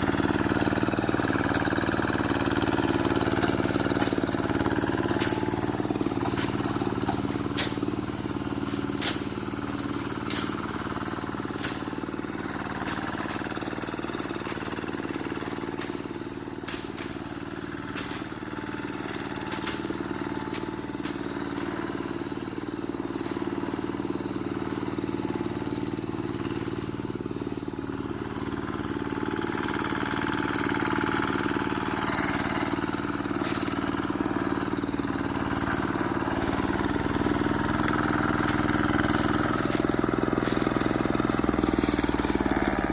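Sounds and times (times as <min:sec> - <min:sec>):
hand tractor engine running: 0:00.0 - 0:42.9.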